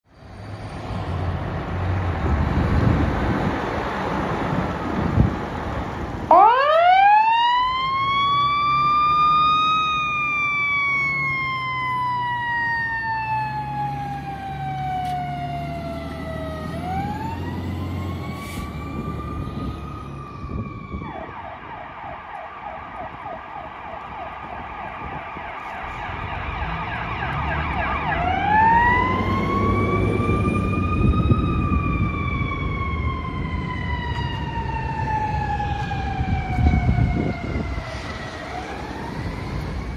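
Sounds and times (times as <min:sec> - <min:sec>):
electronic siren yelp: 0:06.3 - 0:39.9
mechanical siren wailing: 0:06.3 - 0:39.9.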